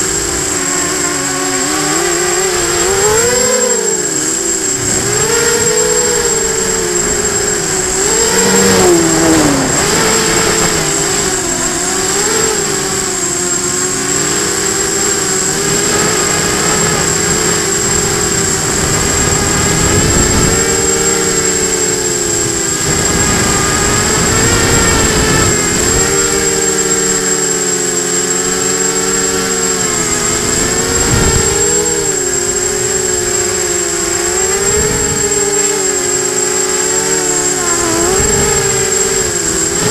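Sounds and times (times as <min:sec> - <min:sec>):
drone motors whining: 0:00.0 - 0:39.9
steady high-pitched tone: 0:00.0 - 0:39.9
wind buffeting microphone: 0:04.1 - 0:27.2, 0:29.3 - 0:35.8, 0:37.5 - 0:39.9.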